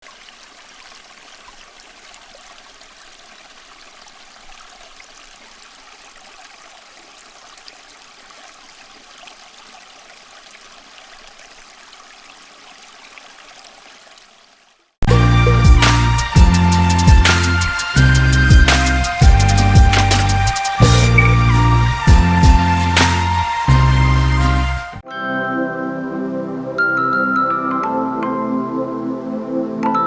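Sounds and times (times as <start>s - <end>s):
fountain water trickling and splashing: 0.0s - 25.0s.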